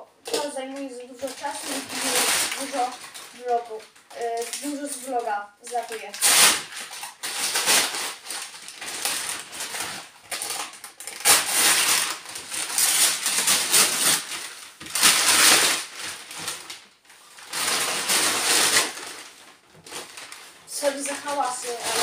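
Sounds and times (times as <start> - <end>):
cardboard crinkling and rustling: 0.3 - 22.0
cardboard ripping: 1.2 - 3.6, 5.7 - 22.0.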